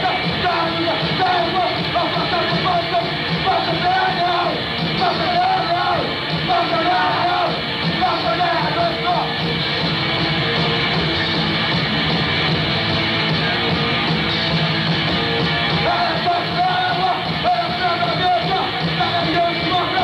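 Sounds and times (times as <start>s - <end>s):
punk rock band playing live: 0.0s - 20.0s.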